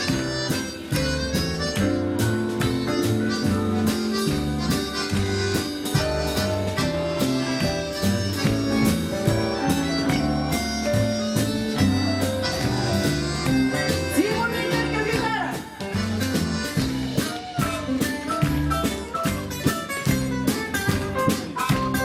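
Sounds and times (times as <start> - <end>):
instrumental music with beat: 0.0 - 22.0.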